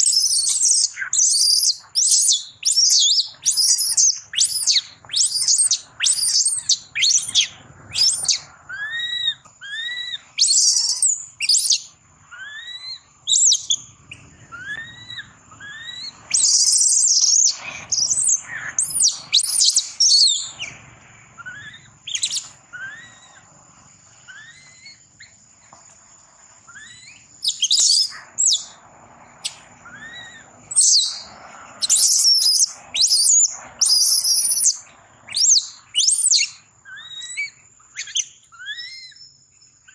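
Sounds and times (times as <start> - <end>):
baby monkey squealing and crying: 0.0 - 13.8, 14.5 - 20.6, 21.4 - 23.4, 24.3 - 25.0, 26.7 - 28.8, 29.9 - 31.2, 31.8 - 39.2
thin high whine: 3.2 - 37.6.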